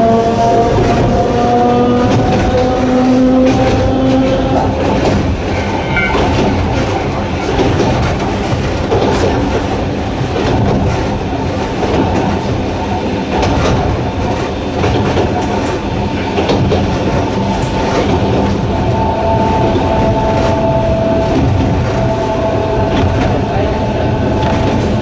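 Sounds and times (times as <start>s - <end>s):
train motors humming: 0.0s - 25.0s
wheels clicking over rail joints: 0.0s - 25.0s.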